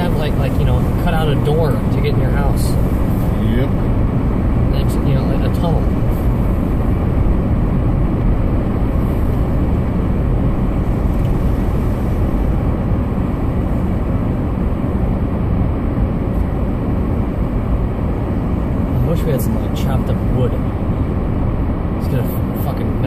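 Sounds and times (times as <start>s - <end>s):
car engine rumble: 0.0s - 23.0s
tyres on snowy road: 0.0s - 23.0s.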